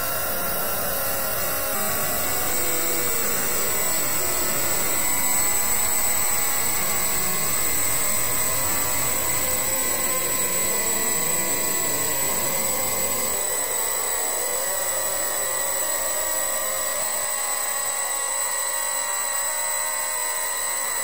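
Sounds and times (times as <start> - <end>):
thin high whine: 0.0 - 21.0.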